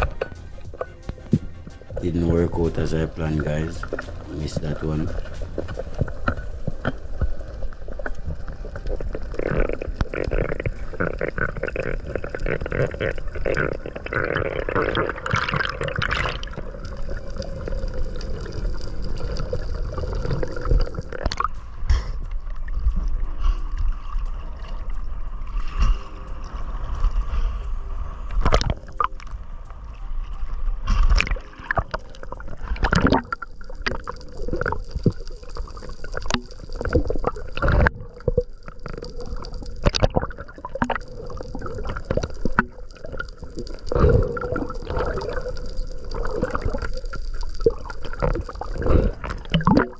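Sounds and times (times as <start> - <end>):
water sloshing and gurgling: 0.0 - 49.9.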